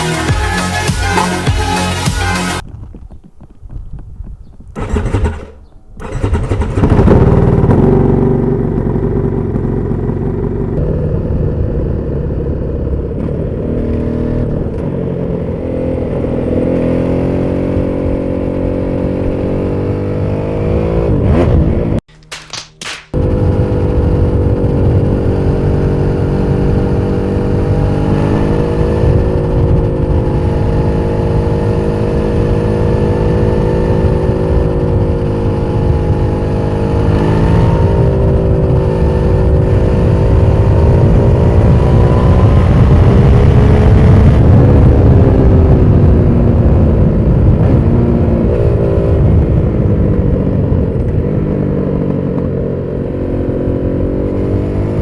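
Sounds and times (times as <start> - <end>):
motorcycle engine revving: 4.7 - 22.0, 23.1 - 55.0.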